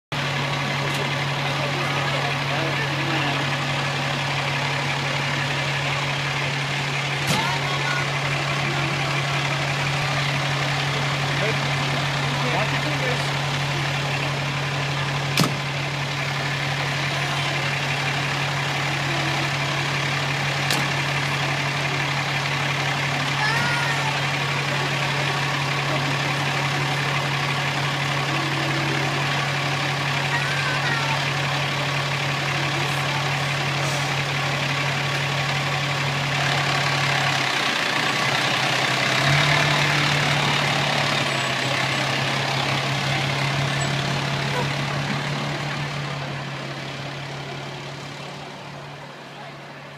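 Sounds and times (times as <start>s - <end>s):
road noise: 0.0s - 49.9s
truck engine humming: 0.1s - 49.9s.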